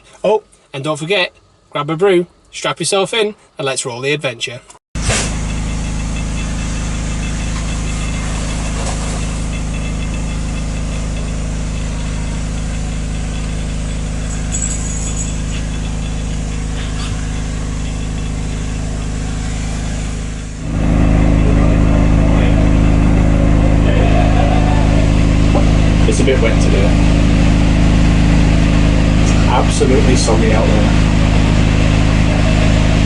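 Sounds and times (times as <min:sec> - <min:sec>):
engine idling: 0:05.0 - 0:33.0.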